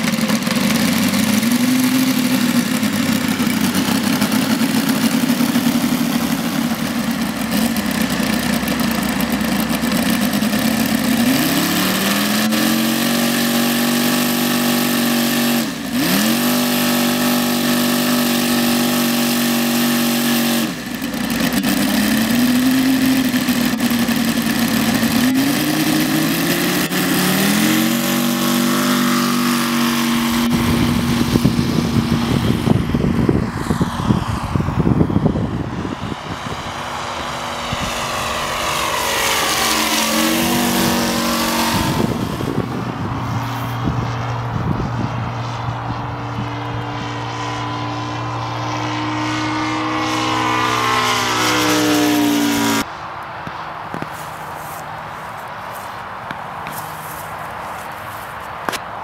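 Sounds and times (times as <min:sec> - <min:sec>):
model plane radial engine: 0:00.0 - 0:58.8.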